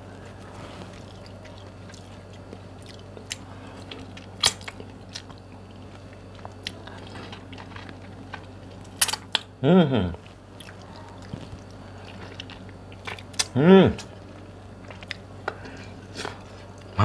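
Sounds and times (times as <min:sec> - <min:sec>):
chewing and small crunches: 0:00.0 - 0:09.6, 0:10.2 - 0:17.0
steady low hum: 0:00.0 - 0:17.0.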